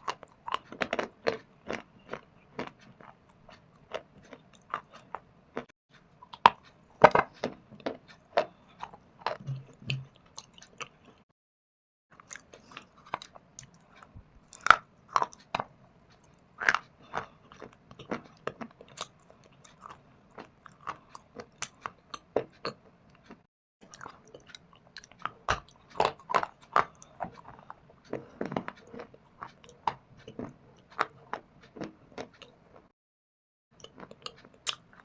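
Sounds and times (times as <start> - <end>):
person crunching and chewing stone: 0.0 - 11.3, 12.2 - 32.8, 33.8 - 35.0.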